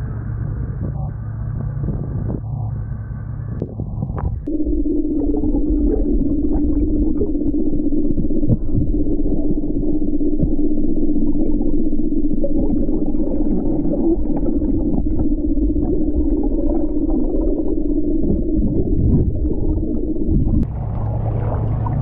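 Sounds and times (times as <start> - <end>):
muffled underwater drone: 0.0 - 22.0.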